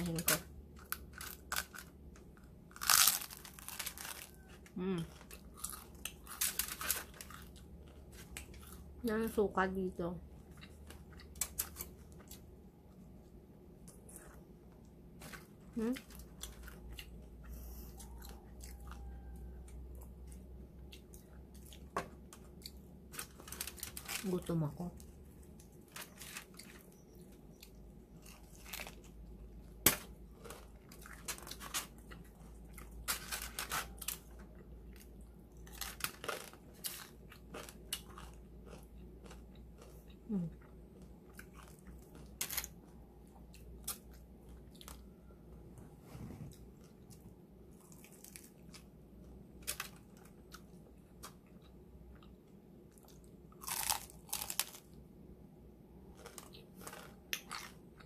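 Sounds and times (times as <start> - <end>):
crunchy chewing: 0.1 - 9.0, 10.3 - 24.4, 25.0 - 45.6, 46.5 - 55.0, 56.0 - 58.0.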